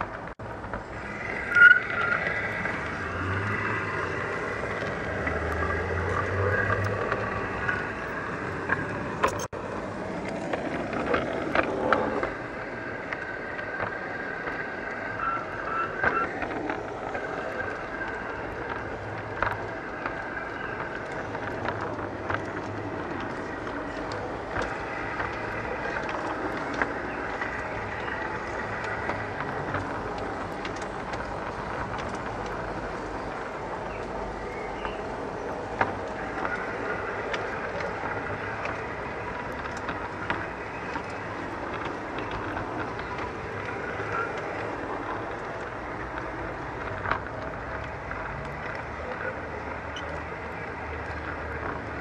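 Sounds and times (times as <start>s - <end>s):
wheels rolling on rails: 0.0s - 52.0s.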